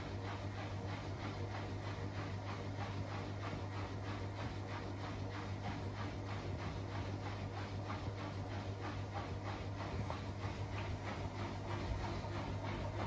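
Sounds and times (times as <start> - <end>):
washing machine humming and swishing: 0.0 - 13.0.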